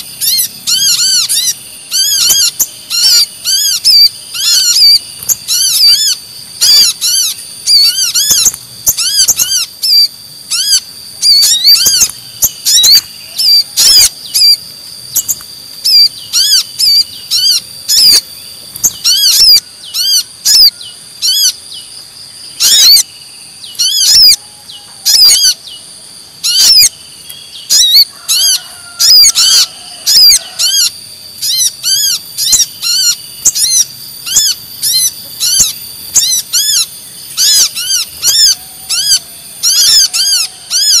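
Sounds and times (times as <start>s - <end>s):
sunbird high-pitched chirps: 0.0s - 41.0s.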